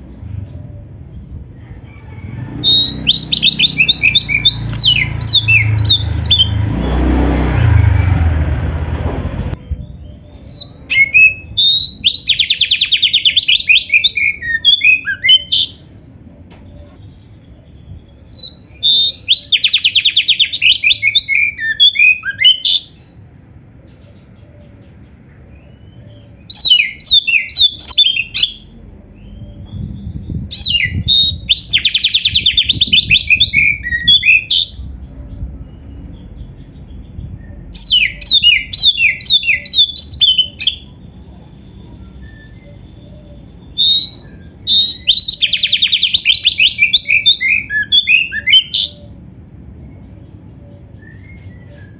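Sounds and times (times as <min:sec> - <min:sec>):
bird singing whistles and trills: 0:02.7 - 0:06.6, 0:09.6 - 0:15.9, 0:17.8 - 0:23.1, 0:25.5 - 0:51.9.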